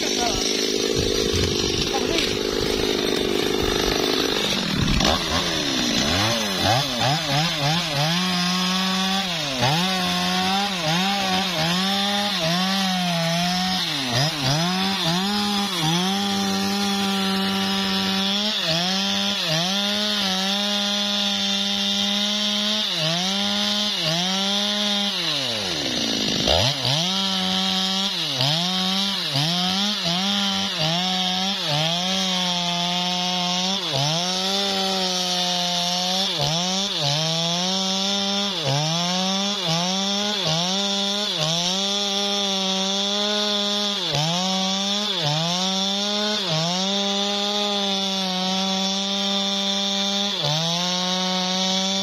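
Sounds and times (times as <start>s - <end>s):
chainsaw cutting wood: 0.0s - 52.0s.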